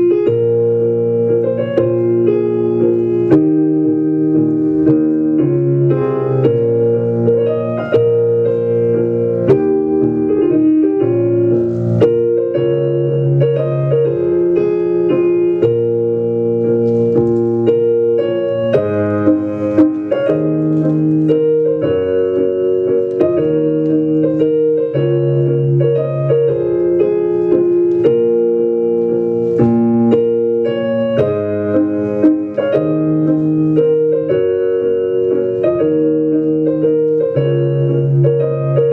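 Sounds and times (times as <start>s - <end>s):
waltz played on keyboard: 0.0s - 38.9s.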